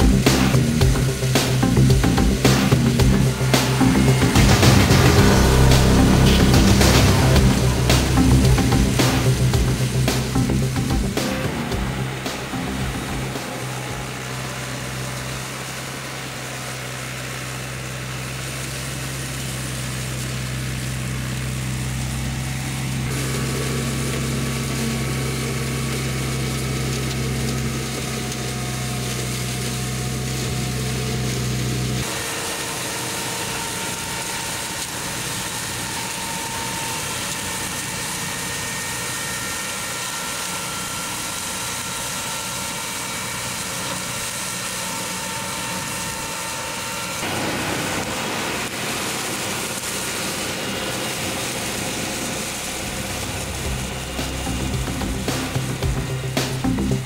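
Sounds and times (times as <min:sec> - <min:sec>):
tractor engine and mower rotor drone: 0:00.0 - 0:57.0.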